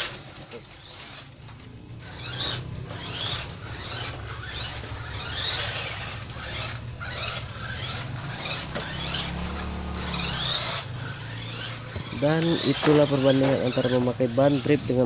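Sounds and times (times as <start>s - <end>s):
squeaky rising chirps: 0.7s - 15.0s
steady low hum: 0.7s - 15.0s.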